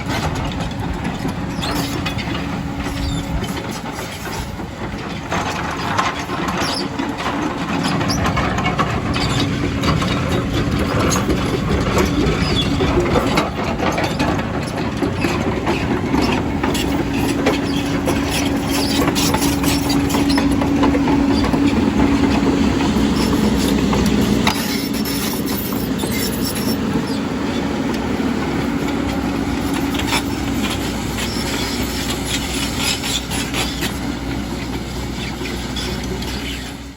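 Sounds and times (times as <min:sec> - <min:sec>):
diesel engine under load: 0:00.0 - 0:36.9.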